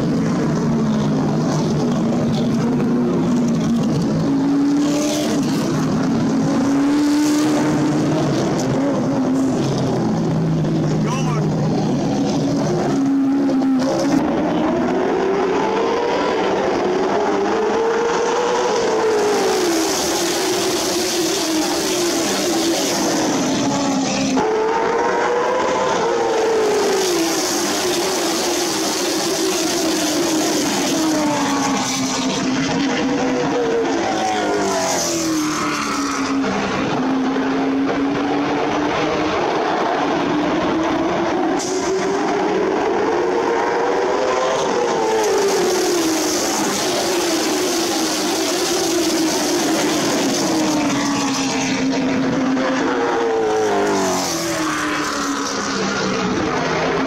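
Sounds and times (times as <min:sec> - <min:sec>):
racing car engines: 0:00.0 - 0:57.0.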